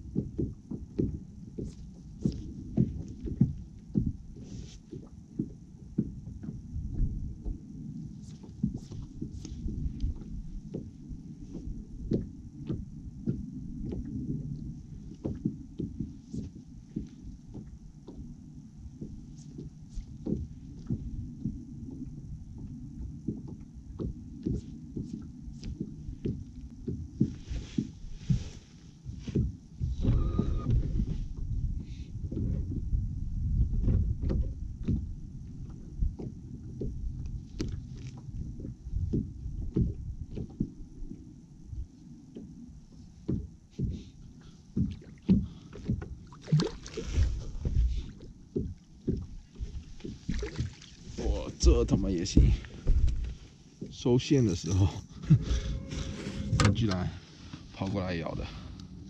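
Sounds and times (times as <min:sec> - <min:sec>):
low rumble of wind and water: 0:00.0 - 0:59.0
small waves slapping boat hull: 0:00.0 - 0:59.0.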